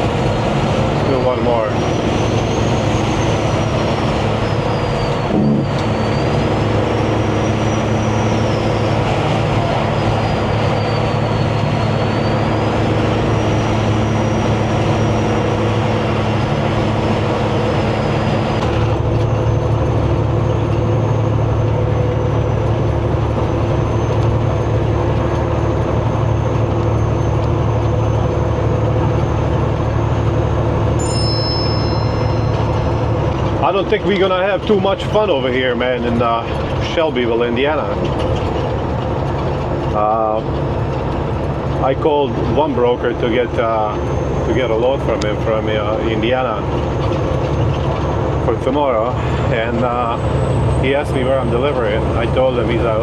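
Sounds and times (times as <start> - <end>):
road noise: 0.0 - 53.0
truck engine drone: 0.0 - 53.0.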